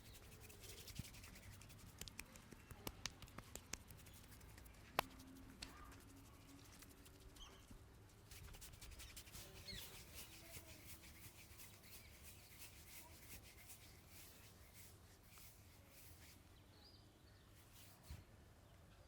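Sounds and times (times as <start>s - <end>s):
fingers rubbing through hair: 0.0s - 16.4s.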